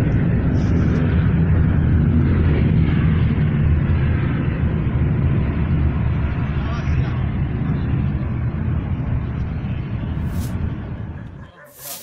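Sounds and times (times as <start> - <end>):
low rumble of missiles: 0.0 - 11.4.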